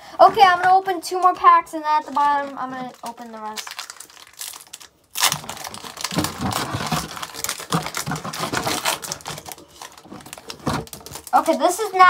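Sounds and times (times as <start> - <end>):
foil wrapper tearing and crinkling: 2.0 - 12.0.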